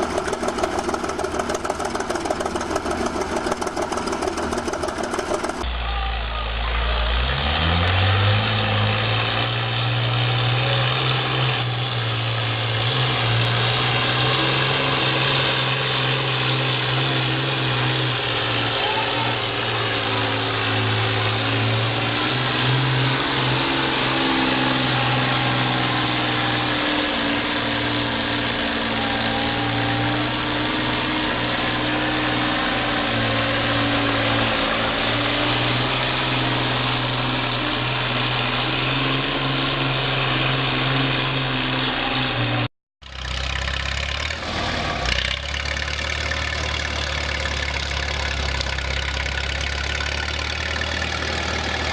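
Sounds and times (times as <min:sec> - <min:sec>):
vehicle engine revving: 0:00.0 - 0:05.7, 0:07.0 - 0:51.9.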